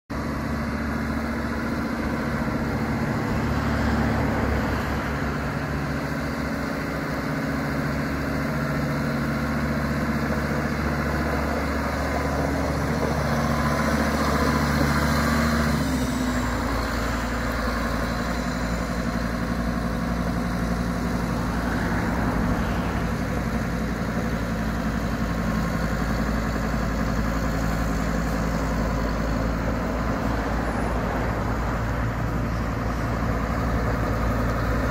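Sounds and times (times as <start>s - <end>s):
diesel tractor engine running: 0.1s - 34.9s.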